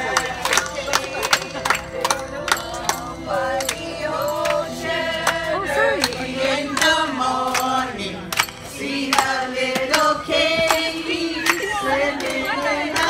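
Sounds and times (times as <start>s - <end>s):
hand claps: 0.0s - 3.8s, 6.0s - 13.0s
group singing: 0.0s - 13.0s.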